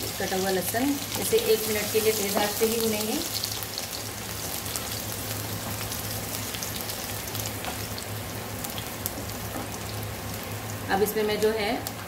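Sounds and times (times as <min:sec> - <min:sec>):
garlic and ginger sizzling in oil: 0:00.0 - 0:12.0.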